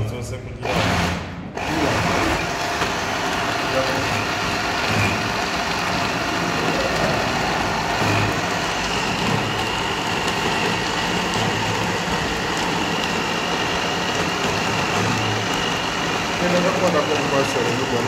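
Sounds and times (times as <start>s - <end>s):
blender motor running: 0.6s - 18.0s.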